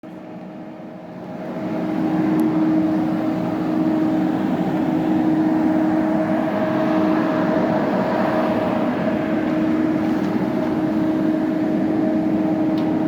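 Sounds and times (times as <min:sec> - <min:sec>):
machine hum with low drone: 0:00.1 - 0:13.0.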